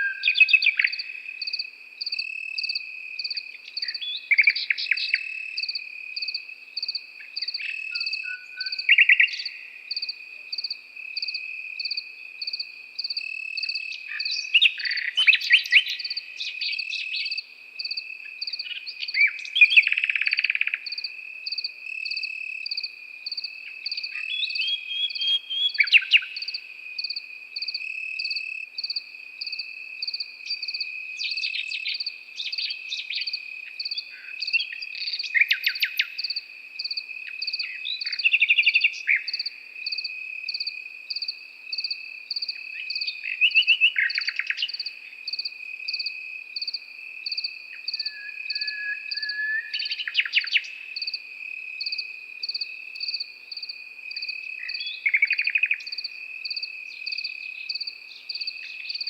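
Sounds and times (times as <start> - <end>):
crickets chirping: 0.0 - 59.0
nightingale singing: 0.0 - 59.0.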